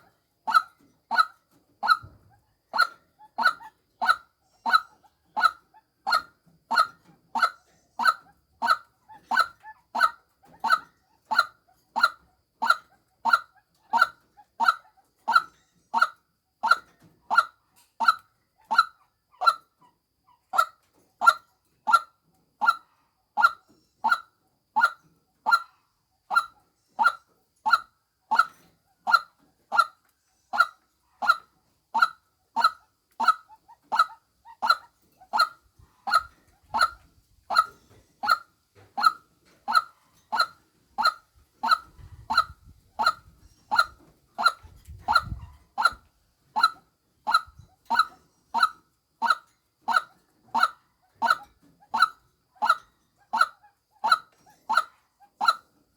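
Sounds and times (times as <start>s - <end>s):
waterhen call: 0.0s - 16.1s, 24.8s - 30.0s, 30.6s - 52.8s, 53.4s - 55.7s.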